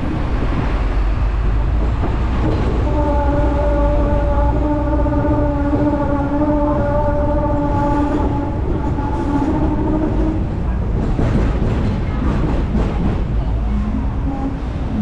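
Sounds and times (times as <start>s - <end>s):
tram running gear rumble: 0.0s - 15.0s
tram whine: 0.0s - 15.0s.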